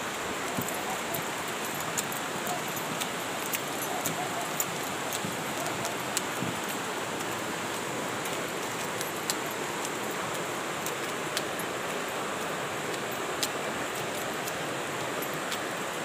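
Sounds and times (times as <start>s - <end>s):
river rushing over rocks: 0.0s - 16.0s
faint sharp ticks: 0.6s - 15.8s.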